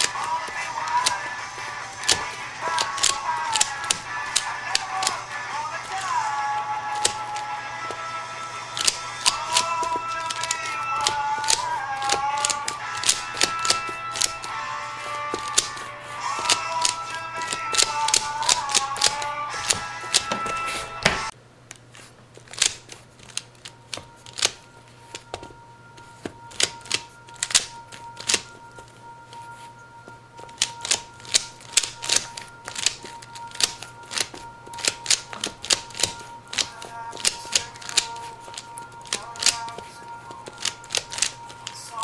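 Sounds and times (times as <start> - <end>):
puzzle cube layers clicking: 0.0 - 8.0, 8.6 - 14.6, 15.2 - 21.2, 22.4 - 25.5, 26.1 - 29.7, 30.4 - 42.0
music: 0.0 - 21.3, 23.8 - 42.0.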